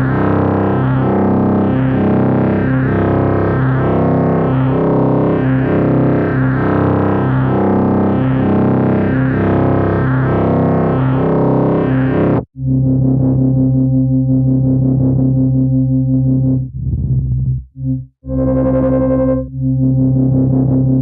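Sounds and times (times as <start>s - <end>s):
synthesizer playing low riff: 0.0s - 21.0s.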